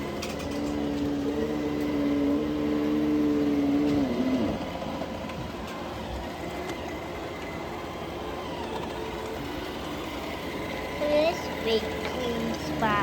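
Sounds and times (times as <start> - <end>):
robot vacuum motor whine: 0.0 - 13.0
vacuum motor and brushes whirring: 0.0 - 13.0.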